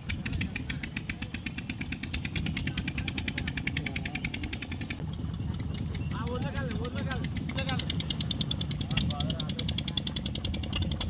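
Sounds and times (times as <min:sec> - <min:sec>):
engine low rumble: 0:00.0 - 0:11.0
small engine knocking: 0:00.0 - 0:11.0.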